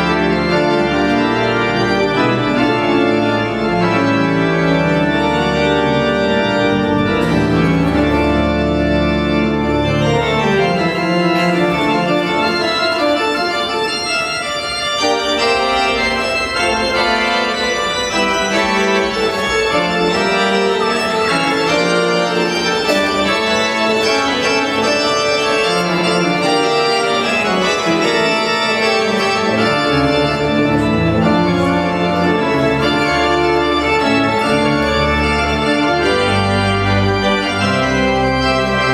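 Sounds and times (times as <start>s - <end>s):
deep organ pedal notes: 0.0s - 38.9s
pipe organ chords: 0.0s - 38.9s.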